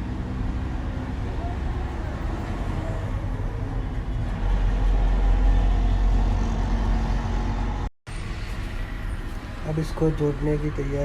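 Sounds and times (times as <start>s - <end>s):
heavy vehicle engine running: 0.0s - 11.0s.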